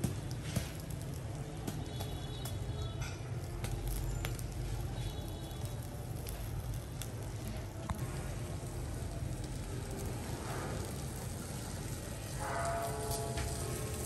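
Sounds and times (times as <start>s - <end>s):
charcoal fire crackling and popping: 0.0s - 14.0s.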